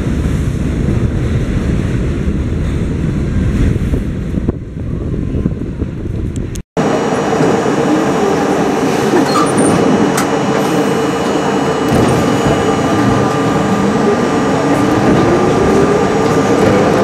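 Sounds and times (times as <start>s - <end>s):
train rail and wheel noise: 0.0s - 17.0s
train whine: 0.0s - 17.0s.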